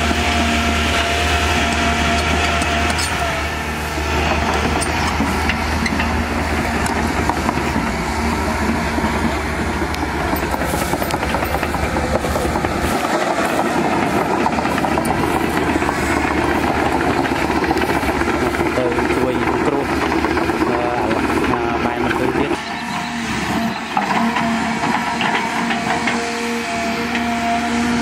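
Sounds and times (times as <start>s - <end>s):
excavator running with clanks: 0.0s - 28.0s.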